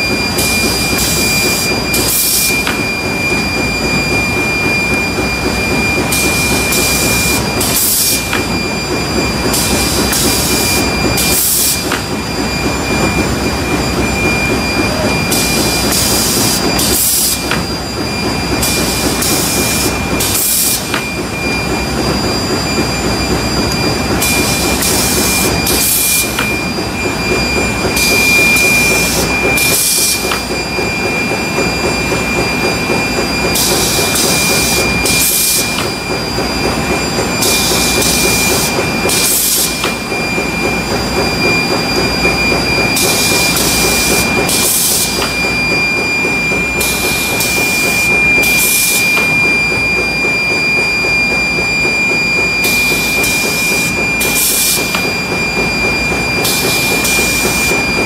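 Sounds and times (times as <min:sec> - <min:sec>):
high machine whine: 0:00.0 - 0:58.0.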